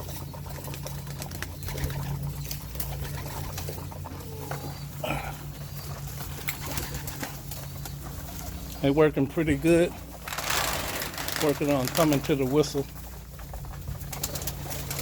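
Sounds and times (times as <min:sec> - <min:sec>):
pigeon feet and wings rustling: 0:00.0 - 0:15.0
steady low hum: 0:00.0 - 0:15.0.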